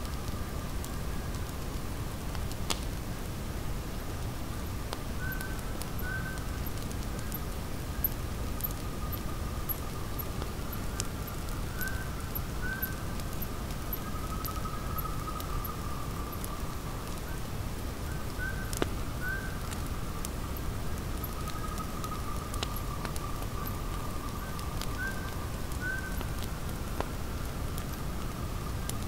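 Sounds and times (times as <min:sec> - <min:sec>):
low hiss: 0:00.0 - 0:29.0.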